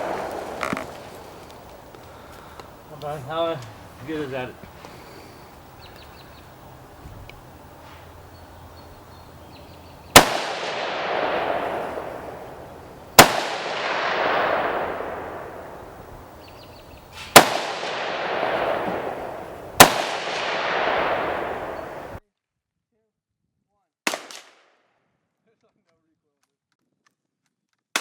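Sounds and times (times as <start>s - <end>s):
rifle shots with rolling echo: 0.0s - 22.2s, 24.1s - 24.5s.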